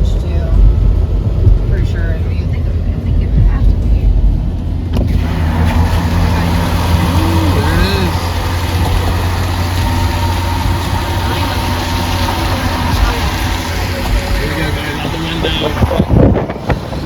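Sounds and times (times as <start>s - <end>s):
car engine and tyre drone: 0.0s - 17.0s.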